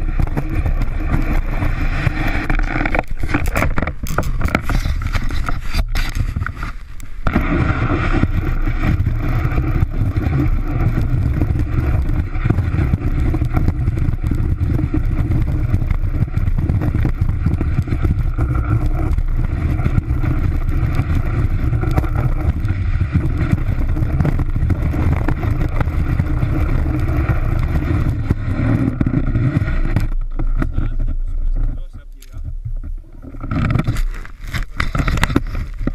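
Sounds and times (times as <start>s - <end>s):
snowboard scraping over snow: 0.0s - 32.4s, 33.2s - 35.9s.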